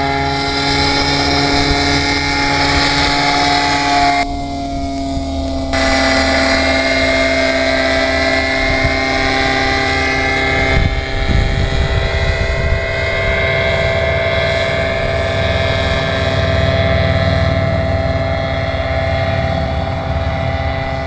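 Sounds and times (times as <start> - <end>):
aircraft engine whine and rumble: 0.0 - 21.0.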